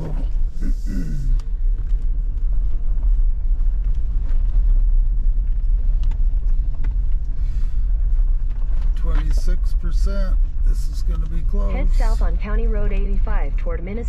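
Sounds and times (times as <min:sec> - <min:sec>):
tyre and road noise: 0:00.0 - 0:14.0.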